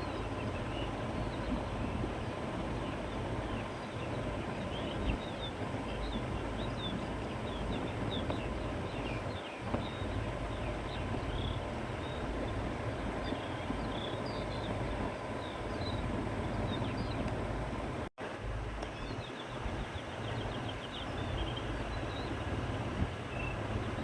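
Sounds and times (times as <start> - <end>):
small birds chirping: 0.0 - 17.4, 18.8 - 24.0
steady wind with low rumble: 0.0 - 24.0.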